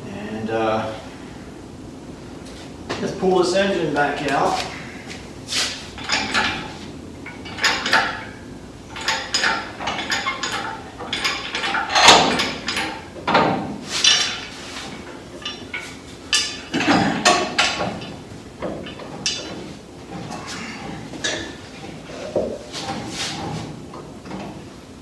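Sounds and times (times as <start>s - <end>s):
metal clanks and rattles: 4.2s - 24.9s.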